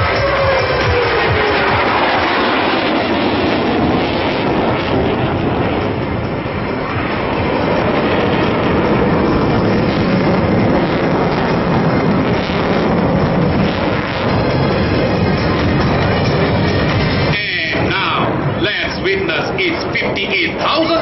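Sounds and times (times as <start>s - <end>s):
jet engines running loud: 0.0s - 21.0s.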